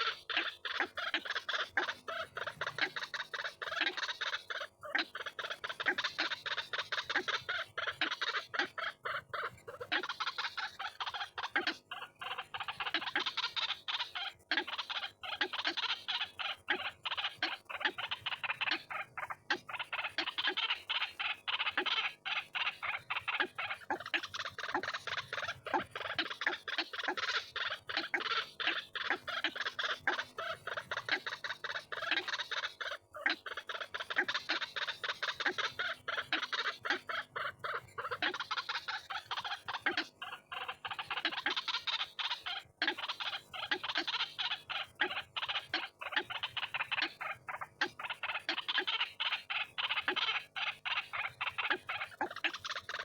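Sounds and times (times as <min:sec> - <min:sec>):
waterhen calling harsh croaks: 0:00.0 - 0:53.0.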